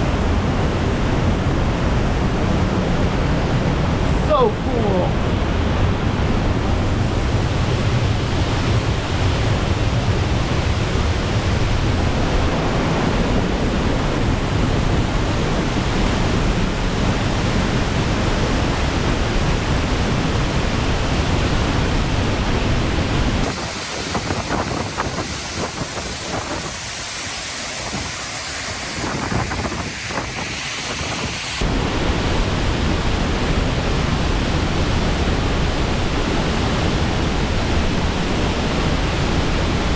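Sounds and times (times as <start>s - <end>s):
waterfall rushing: 3.4s - 39.9s.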